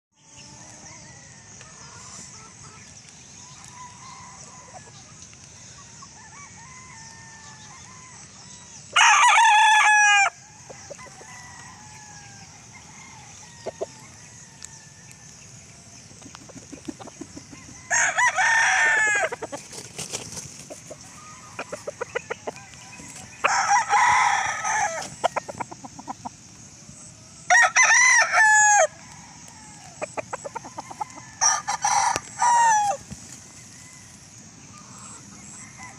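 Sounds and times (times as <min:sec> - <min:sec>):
steady high hiss: 0:00.2 - 0:35.9
roosters crowing: 0:03.4 - 0:35.9.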